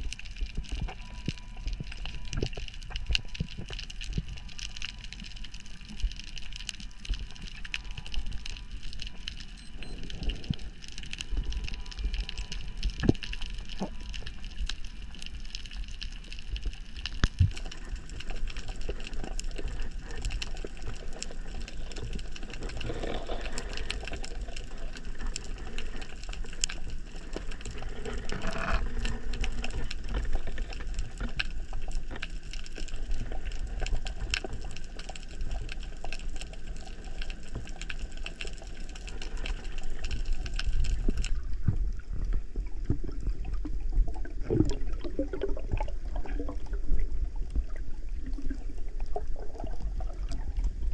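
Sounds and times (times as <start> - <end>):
crackling clicks: 0.0 - 50.9
low underwater rumble: 0.0 - 50.9.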